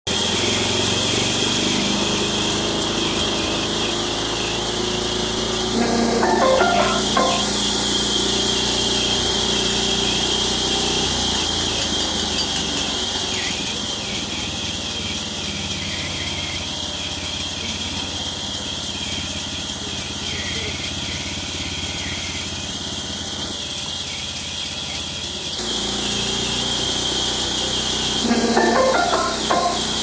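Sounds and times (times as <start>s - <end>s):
wood-sawing machine running: 0.1s - 30.0s.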